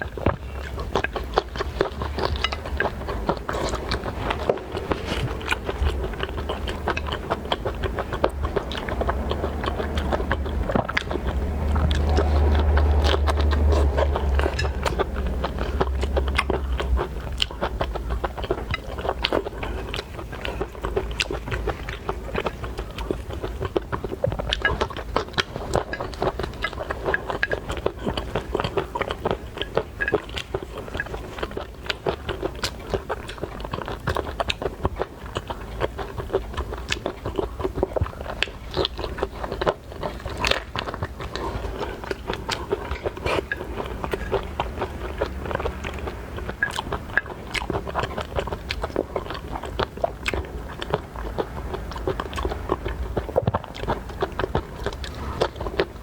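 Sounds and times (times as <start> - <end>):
chewing and biting seafood: 0.0 - 56.0.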